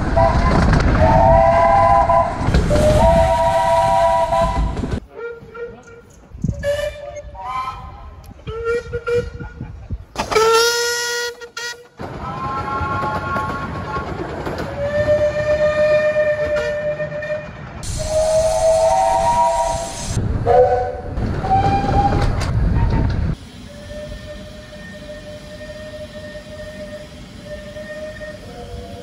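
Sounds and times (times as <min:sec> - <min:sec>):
train running rumble: 0:00.0 - 0:29.0
steam locomotive whistle blasts: 0:00.1 - 0:09.3, 0:10.4 - 0:13.6, 0:14.8 - 0:22.3, 0:23.5 - 0:29.0.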